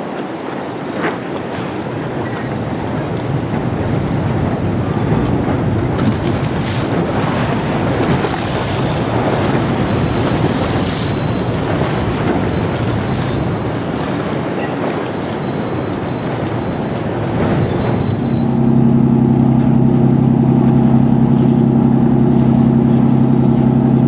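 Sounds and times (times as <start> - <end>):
churned water: 0.0 - 24.0
ferry diesel engines rumbling: 0.8 - 24.0
wind on microphone: 1.0 - 24.0.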